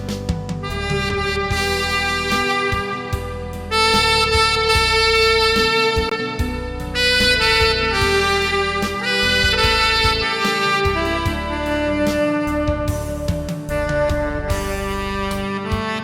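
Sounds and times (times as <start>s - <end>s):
backing track: 0.0s - 16.0s
tenor saxophone melody: 0.6s - 16.0s.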